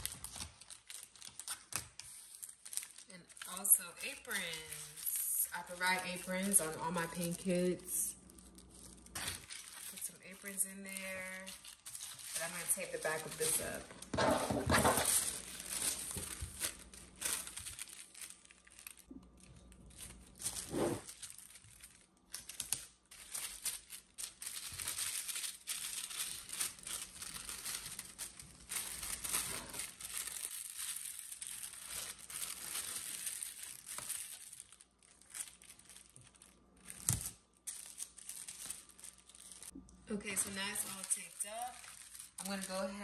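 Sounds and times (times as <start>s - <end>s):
tissue paper crinkling: 0.0s - 43.0s.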